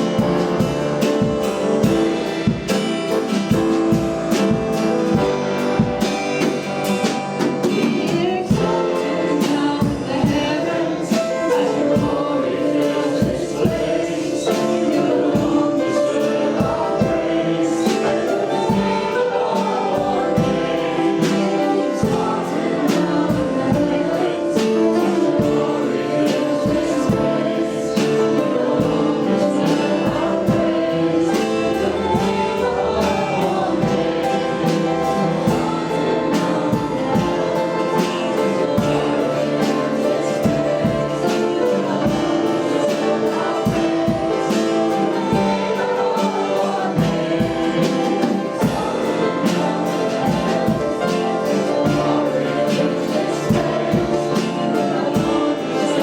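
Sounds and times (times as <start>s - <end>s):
gospel group singing with band: 0.0s - 56.0s.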